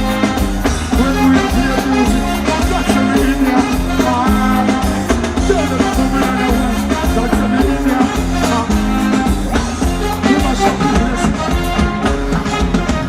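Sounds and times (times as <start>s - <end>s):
live reggae band playing: 0.0s - 13.0s.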